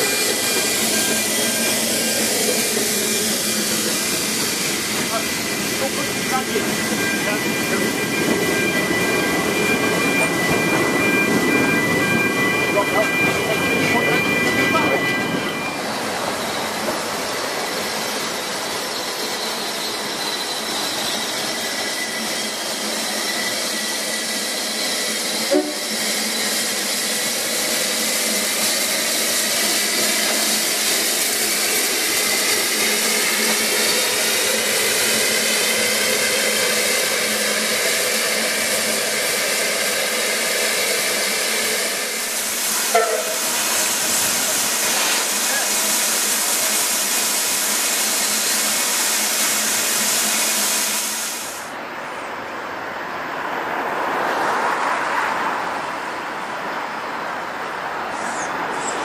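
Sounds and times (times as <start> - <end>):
steam locomotive hissing: 0.0 - 52.0.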